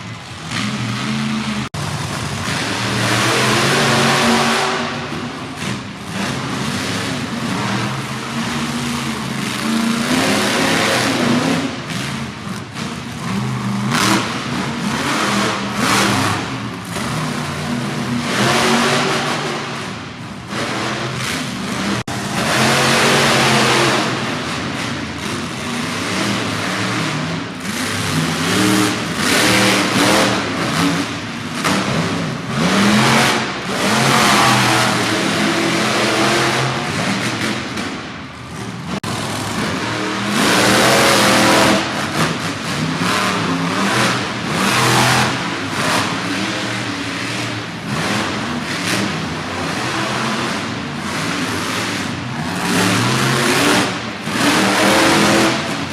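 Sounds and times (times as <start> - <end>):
truck engines revving: 0.0 - 55.9.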